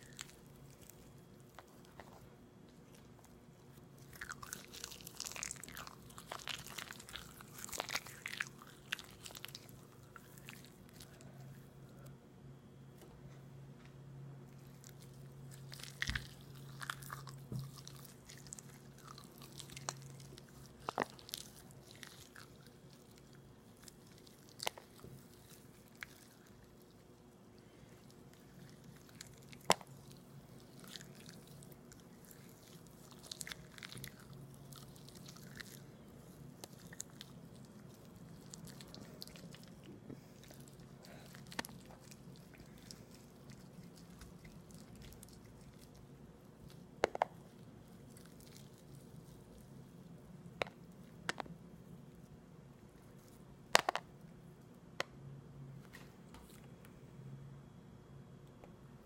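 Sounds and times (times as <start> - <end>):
chewing and biting aloe vera: 0.0 - 11.6, 14.6 - 51.3
faint low hum: 0.0 - 59.0.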